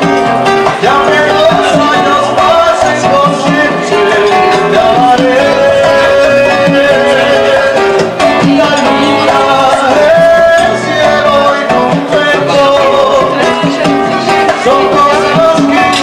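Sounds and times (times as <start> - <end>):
live band with singing: 0.0 - 16.0.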